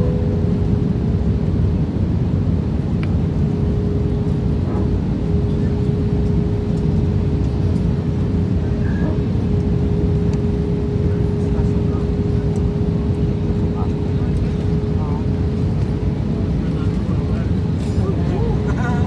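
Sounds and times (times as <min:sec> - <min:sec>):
aircraft engines and airflow roar: 0:00.0 - 0:19.0
steady hum tone: 0:00.0 - 0:19.0.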